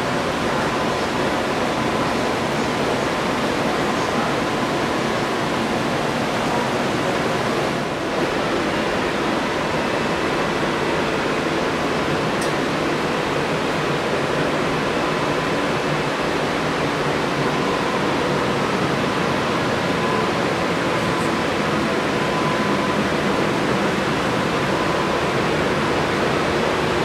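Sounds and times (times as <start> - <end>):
air-conditioning rushing noise: 0.0 - 27.0
faint steady whine: 0.0 - 27.0.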